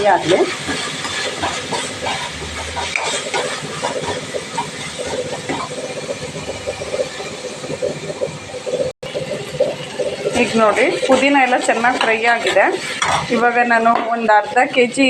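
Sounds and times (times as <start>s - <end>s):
oil crackling and popping: 0.0s - 13.4s
leaves sizzling in hot oil: 0.0s - 15.0s.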